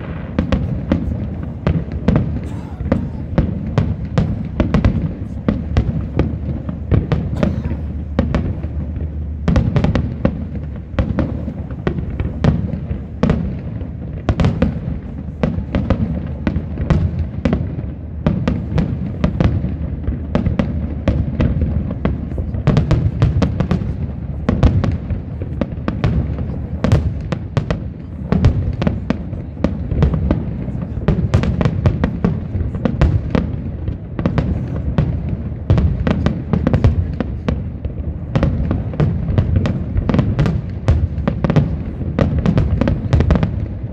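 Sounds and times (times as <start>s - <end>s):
fireworks bangs and cracks: 0.0s - 43.9s
low rumble of explosions: 0.0s - 43.9s.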